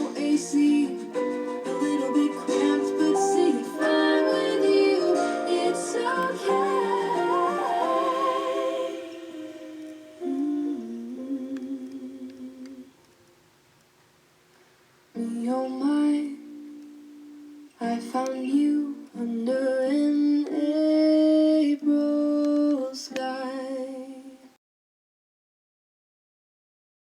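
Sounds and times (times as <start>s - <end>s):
pop song with hummed melody: 0.0s - 13.1s, 15.1s - 24.5s.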